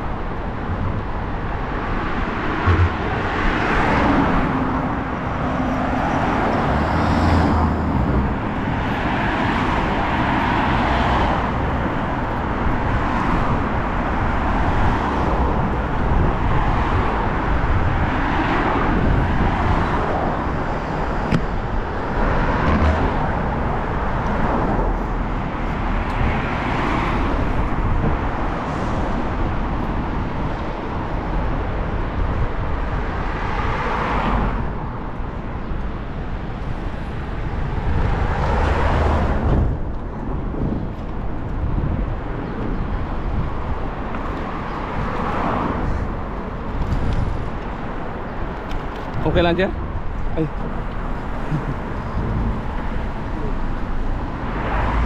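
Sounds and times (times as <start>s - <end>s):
cars passing: 0.0s - 55.0s
low traffic rumble: 0.0s - 55.0s.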